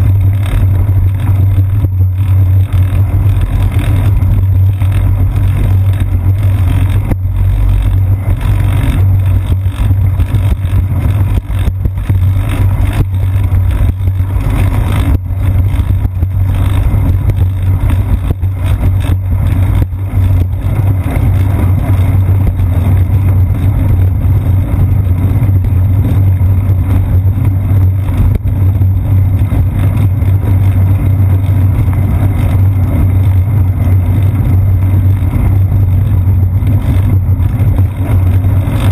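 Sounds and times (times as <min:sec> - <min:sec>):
wheels knocking over bumps: 0:00.0 - 0:38.9
wind buffeting while riding: 0:00.0 - 0:38.9.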